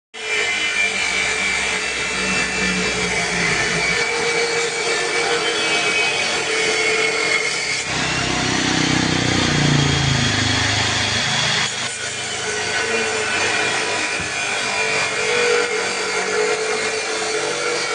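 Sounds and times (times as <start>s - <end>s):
power cutting machine cutting: 0.2s - 17.9s.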